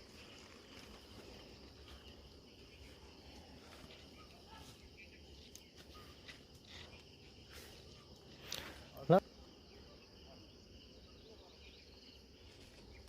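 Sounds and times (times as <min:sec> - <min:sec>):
faint insect chirring: 0:00.0 - 0:13.0.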